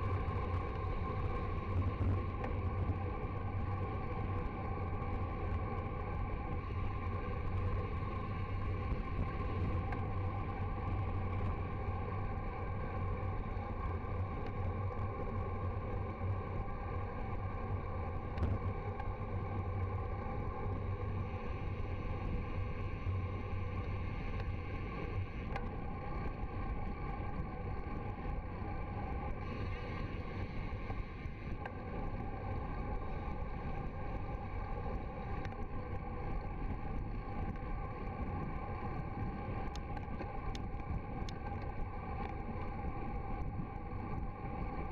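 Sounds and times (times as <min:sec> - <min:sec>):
bicycle tyre and road noise: 0:00.0 - 0:44.9.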